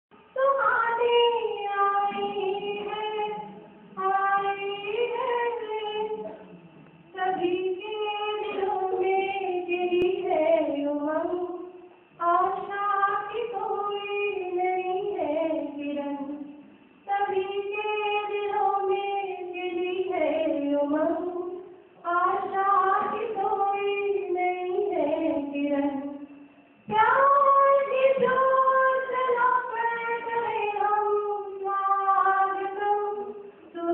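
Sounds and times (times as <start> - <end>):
girl singing unaccompanied: 0.3 - 6.3, 7.1 - 33.9.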